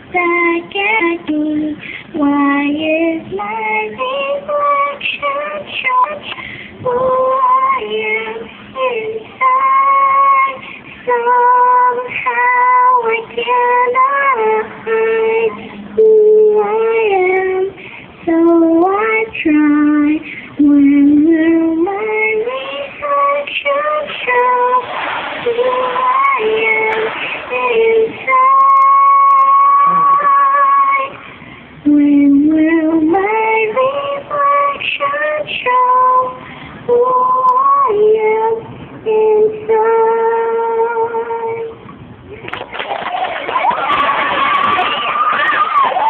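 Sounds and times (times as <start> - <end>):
girl singing: 0.0 - 41.8.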